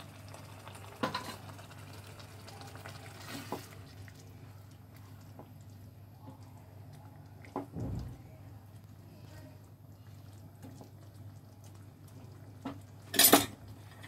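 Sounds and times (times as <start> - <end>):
spatula stirring liquid in a pan: 0.3 - 14.0.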